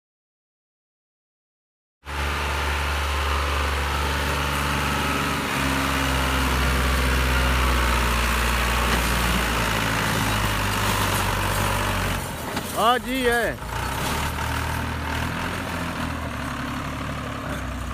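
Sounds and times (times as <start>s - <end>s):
tractor diesel engine labouring: 2.1s - 17.9s.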